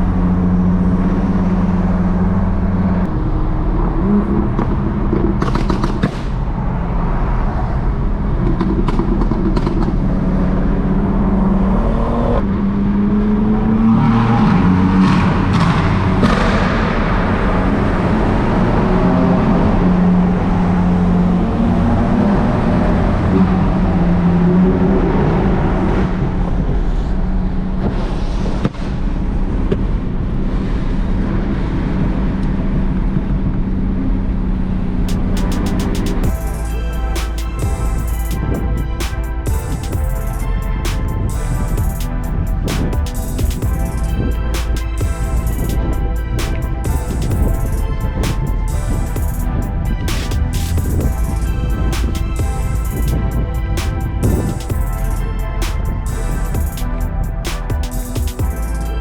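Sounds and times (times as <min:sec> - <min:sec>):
car engine droning: 0:00.0 - 0:59.0.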